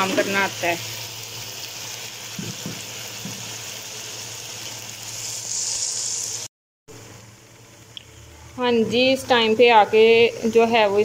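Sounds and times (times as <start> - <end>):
masala sizzling in a metal pan: 0.0 - 11.0.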